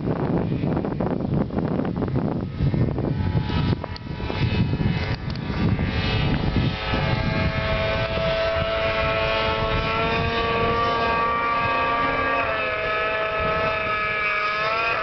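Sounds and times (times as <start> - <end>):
jet ski engine whine: 0.0 - 15.0
wind rumble on microphone: 0.0 - 15.0.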